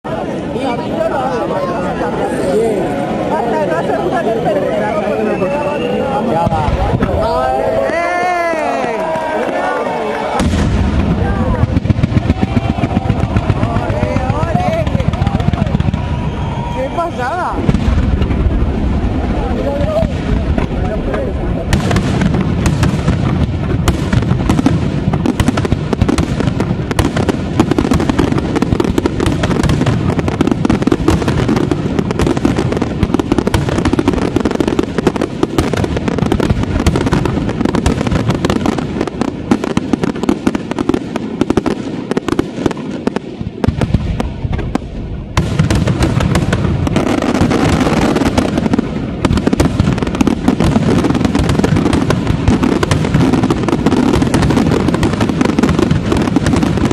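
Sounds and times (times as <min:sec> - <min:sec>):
fireworks bursts and crackle: 0:00.0 - 0:56.9.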